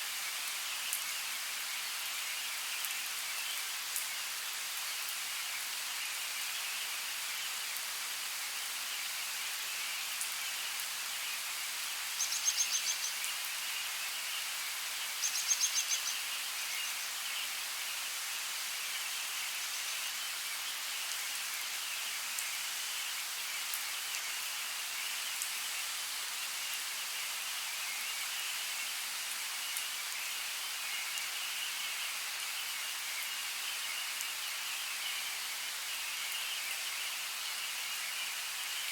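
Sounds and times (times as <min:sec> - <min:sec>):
rain hissing on foliage: 0:00.0 - 0:38.9.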